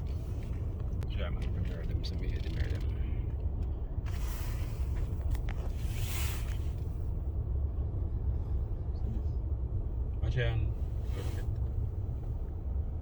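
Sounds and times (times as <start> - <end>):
car idling rumble: 0.0 - 13.0.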